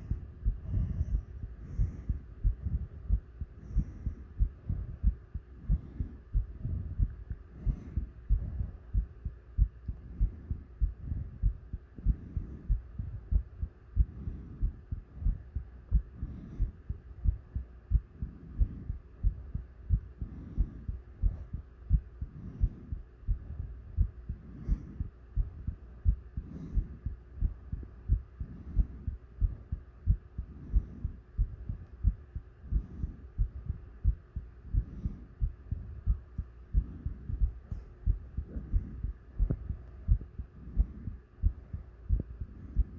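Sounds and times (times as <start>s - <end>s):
heartbeat thumping: 0.0s - 42.9s
heavy breathing: 0.0s - 42.9s.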